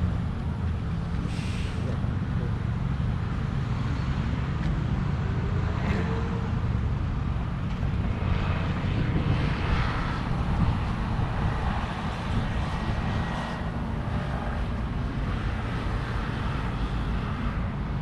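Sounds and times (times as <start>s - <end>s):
distant engines rumbling: 0.0s - 18.0s.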